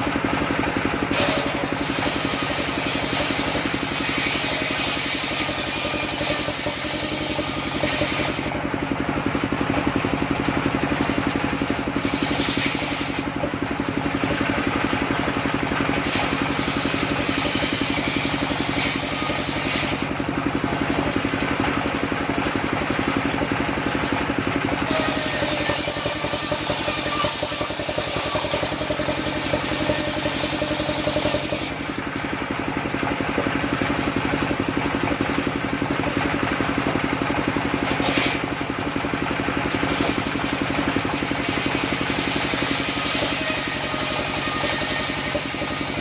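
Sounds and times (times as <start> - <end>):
sawmill engine pulsing: 0.0 - 46.0.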